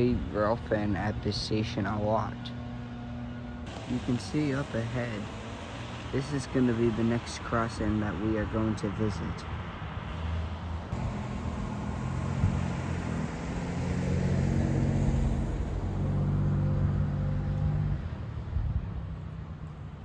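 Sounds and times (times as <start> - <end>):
car engine hum: 0.0 - 9.3, 10.8 - 20.0
road noise: 0.0 - 20.0.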